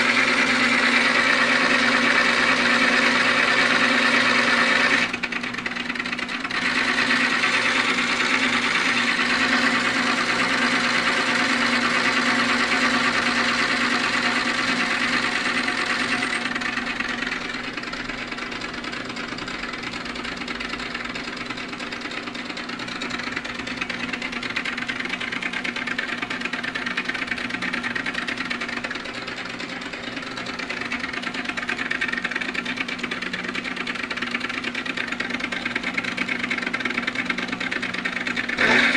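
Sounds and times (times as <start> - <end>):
lathe motor hum: 0.0 - 38.9.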